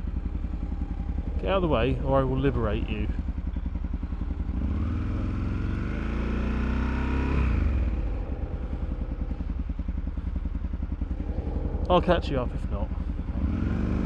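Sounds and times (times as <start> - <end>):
motorcycle engine pulling away: 0.0 - 14.0.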